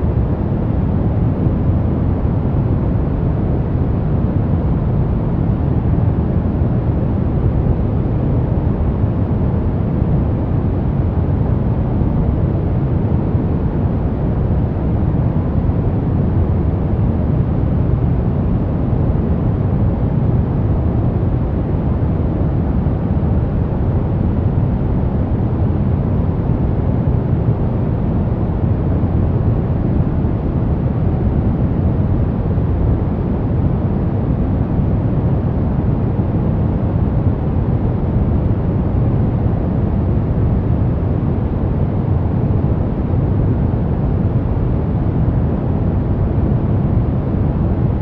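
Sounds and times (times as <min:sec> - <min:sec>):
deep low white noise: 0:00.0 - 0:48.0.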